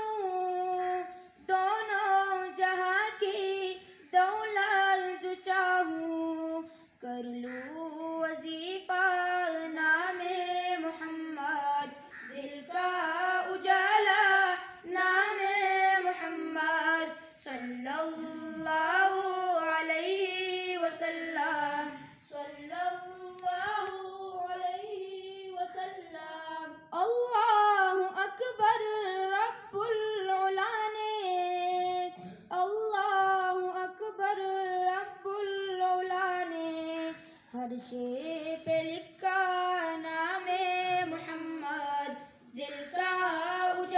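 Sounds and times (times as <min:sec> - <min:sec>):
boys singing unaccompanied: 0:00.0 - 0:43.9.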